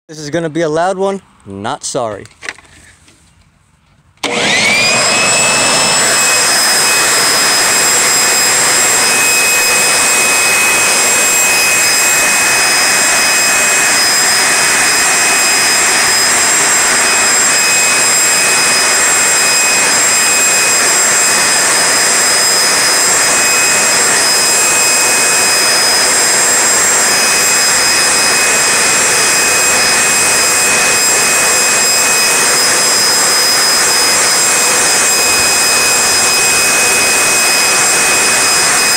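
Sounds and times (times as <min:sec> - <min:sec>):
electric leaf blower whining: 0:04.2 - 0:38.9.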